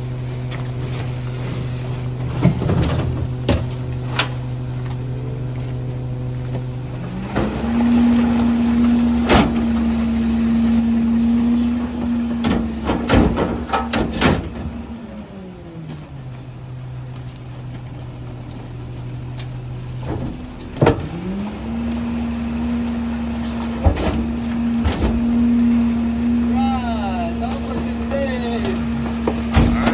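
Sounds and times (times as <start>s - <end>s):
garbage truck engine: 0.0s - 29.9s.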